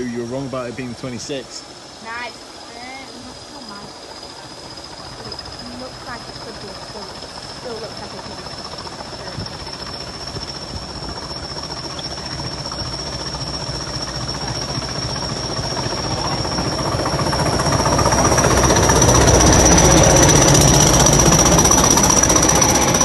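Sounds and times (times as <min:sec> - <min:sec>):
diesel locomotive engine throbbing: 0:00.0 - 0:23.0.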